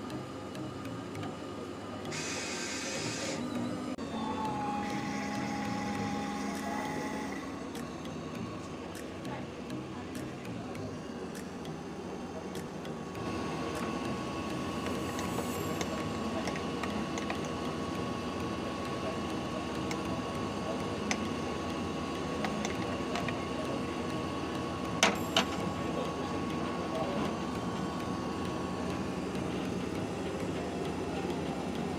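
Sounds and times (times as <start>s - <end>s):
low murmur: 0.0s - 31.9s
machine hum: 0.0s - 31.9s.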